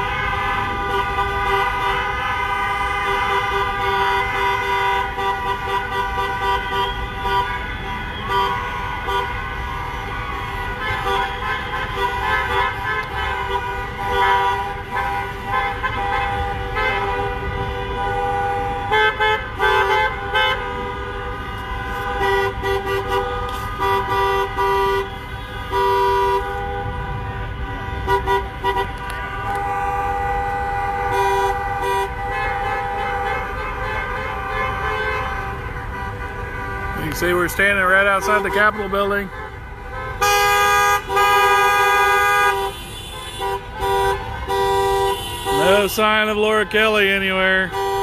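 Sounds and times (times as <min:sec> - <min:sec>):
car horns honking: 0:00.0 - 0:48.0.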